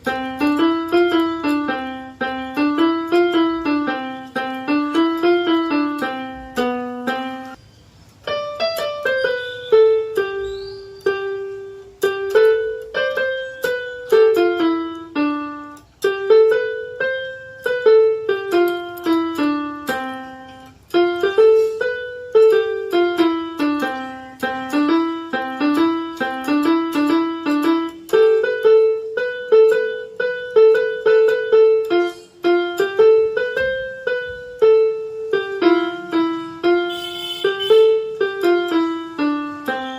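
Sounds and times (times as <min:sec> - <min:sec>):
electronic keyboard melody: 0:00.0 - 0:39.9.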